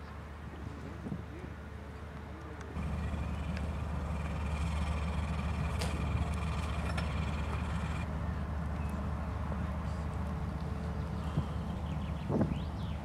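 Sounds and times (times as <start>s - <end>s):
ship diesel engines droning: 1.7s - 13.0s.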